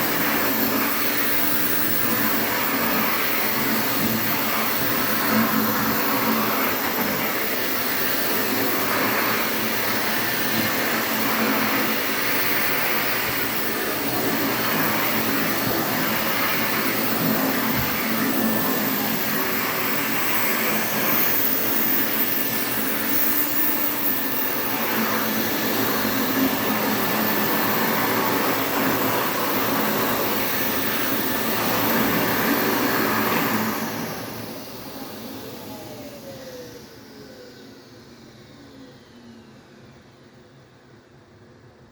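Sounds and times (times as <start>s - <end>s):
motor winding down whine: 0.0s - 41.2s
vacuum cleaner whirring: 0.0s - 41.9s.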